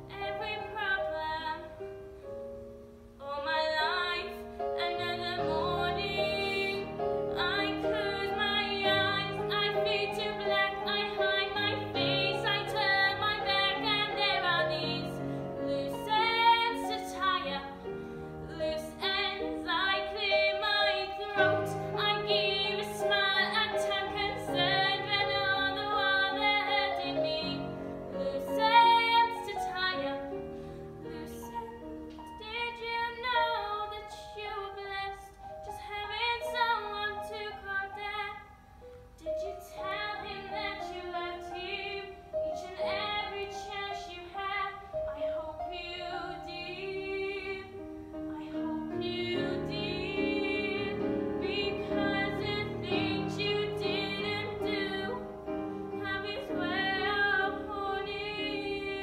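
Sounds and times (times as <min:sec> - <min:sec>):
woman singing: 0:00.0 - 0:02.0, 0:03.2 - 0:59.0
sustained musical accompaniment: 0:00.0 - 0:59.0.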